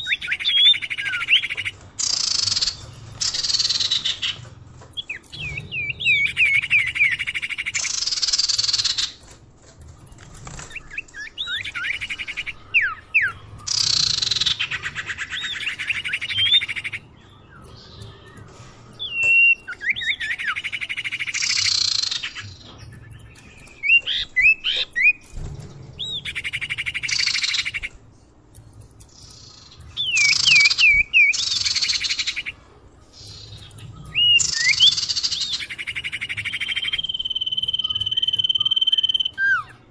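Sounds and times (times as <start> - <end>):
bird song whistles and trills: 0.0 - 9.3, 9.9 - 28.0, 29.0 - 39.9.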